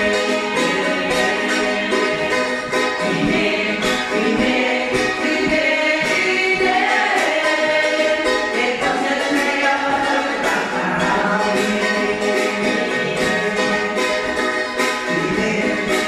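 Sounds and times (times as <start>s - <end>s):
ukuleles strummed: 0.0s - 16.0s
women singing together: 0.0s - 16.0s.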